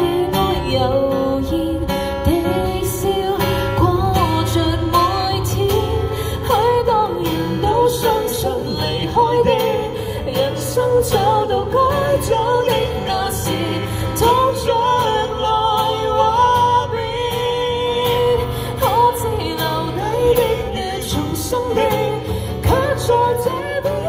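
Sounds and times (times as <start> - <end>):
guitar accompaniment: 0.0 - 24.0
woman singing slow ballad: 0.0 - 24.0.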